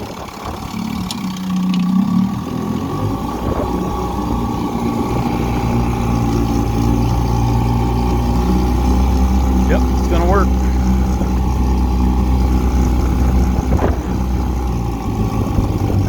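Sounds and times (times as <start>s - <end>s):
outboard engine running: 0.0s - 16.0s.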